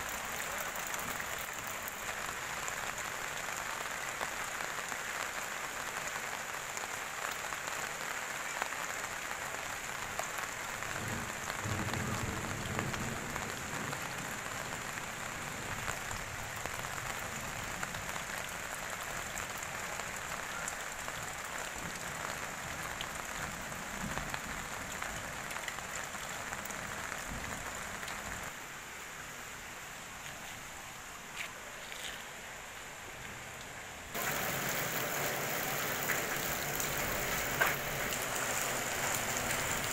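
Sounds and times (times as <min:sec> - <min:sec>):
rain falling through trees: 0:00.0 - 0:39.9.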